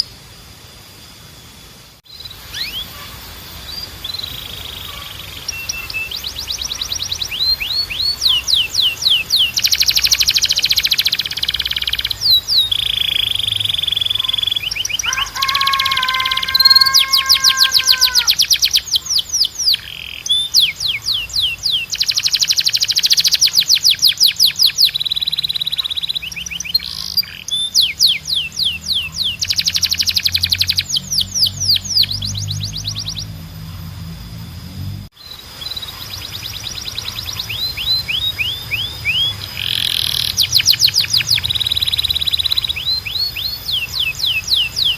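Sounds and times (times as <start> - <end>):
canary singing: 2.1 - 34.1, 35.2 - 44.9.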